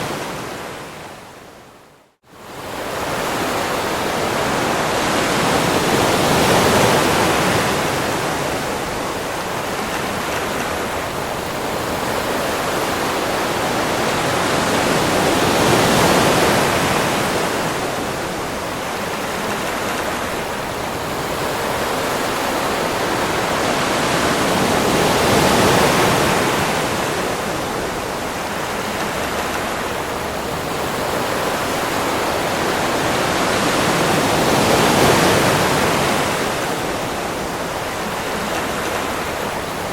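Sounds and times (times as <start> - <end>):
ocean surf washing onto beach: 0.0 - 1.6, 2.3 - 39.9.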